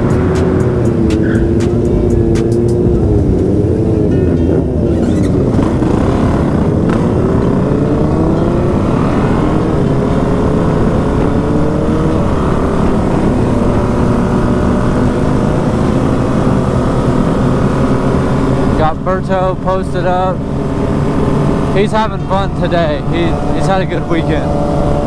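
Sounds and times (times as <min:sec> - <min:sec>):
dirt bike engine accelerating: 0:00.0 - 0:25.0.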